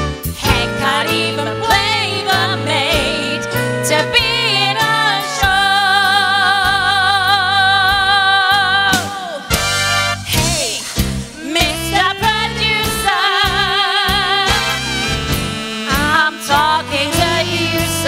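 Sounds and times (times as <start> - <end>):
musical accompaniment: 0.0 - 18.0
woman singing show tune: 0.4 - 9.6, 10.3 - 14.8, 15.5 - 18.0.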